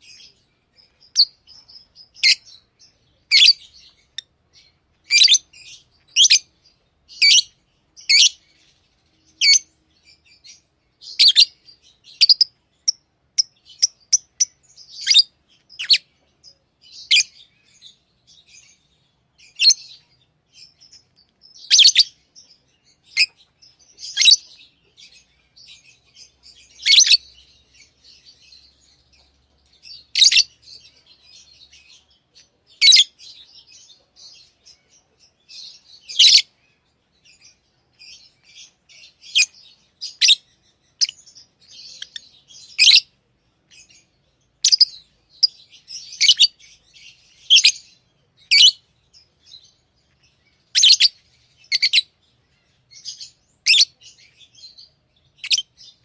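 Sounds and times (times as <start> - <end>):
faint bird chatter: 0.0 - 56.0
lovebirds chirping: 0.0 - 56.0.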